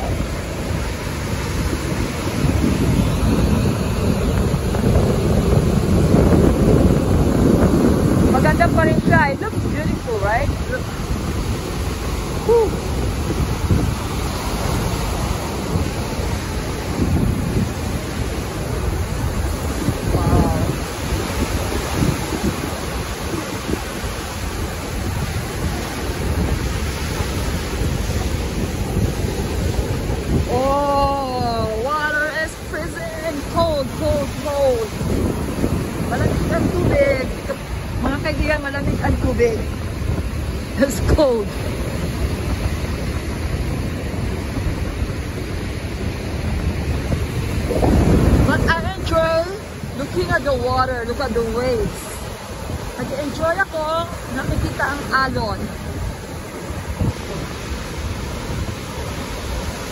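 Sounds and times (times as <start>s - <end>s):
surf breaking on beach: 0.0s - 59.9s
wind buffeting microphone: 0.0s - 59.9s.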